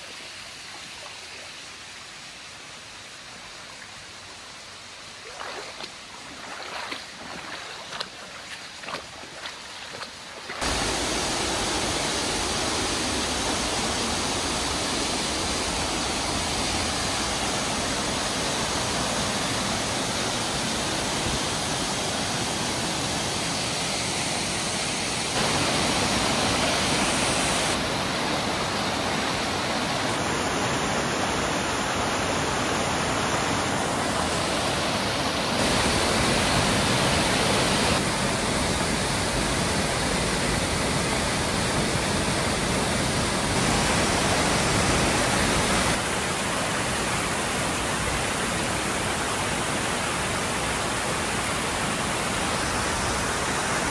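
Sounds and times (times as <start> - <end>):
waterfall roaring: 10.5 - 53.9.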